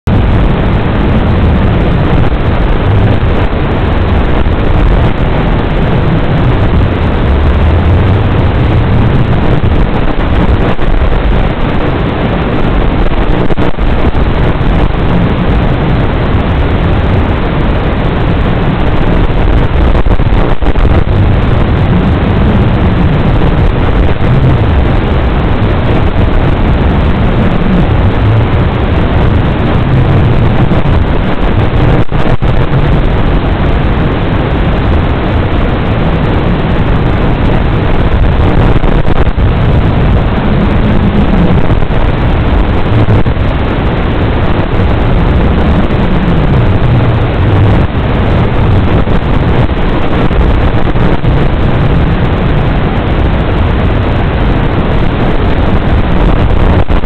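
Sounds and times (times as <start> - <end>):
loud static hiss: 0.0 - 57.0.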